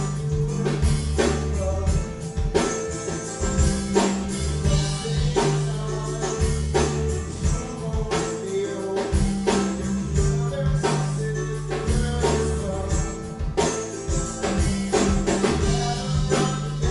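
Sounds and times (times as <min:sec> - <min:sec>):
drum kit beat: 0:00.0 - 0:16.9
guitars and bass: 0:00.0 - 0:16.9.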